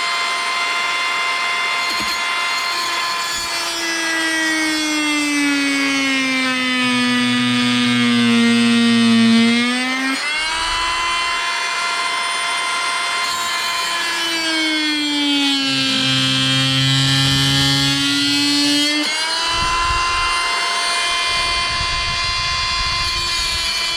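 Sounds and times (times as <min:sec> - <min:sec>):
oscillating tool cutting stone: 0:00.0 - 0:23.9.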